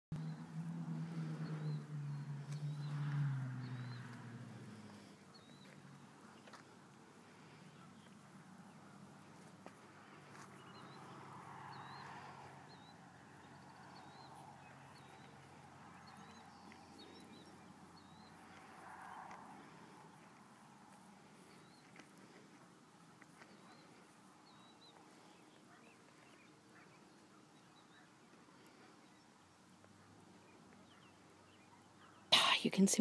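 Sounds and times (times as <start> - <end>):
faint birds chirping: 0.2 - 33.0.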